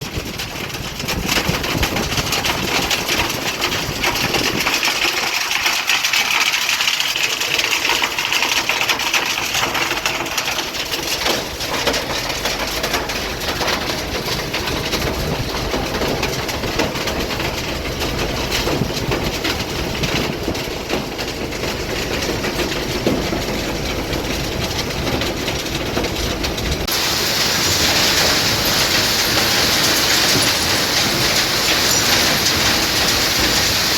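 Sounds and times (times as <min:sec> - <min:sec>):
plant machinery rattling: 0:00.0 - 0:33.9.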